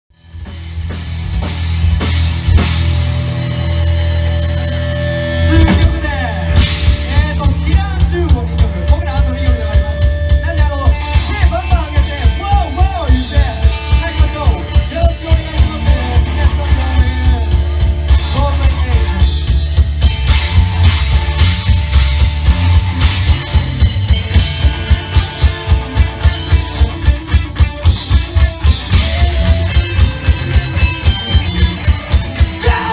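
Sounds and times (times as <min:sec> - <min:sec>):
drum kit driving beat: 0:00.1 - 0:32.9
rock band playing: 0:00.1 - 0:32.9.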